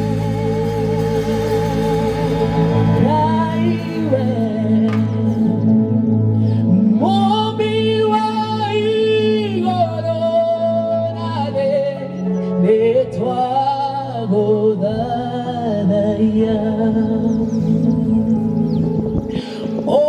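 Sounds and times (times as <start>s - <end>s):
person singing long wavering notes: 0.0s - 20.0s
sustained chords: 0.0s - 20.0s.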